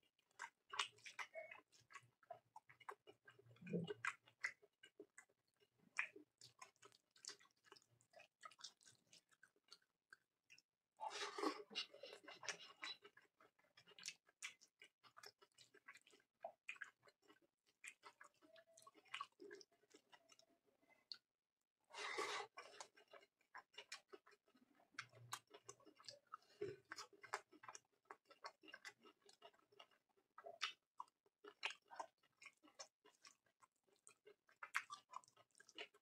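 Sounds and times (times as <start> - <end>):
chewing and lip smacking: 0.2 - 21.2, 22.4 - 36.0.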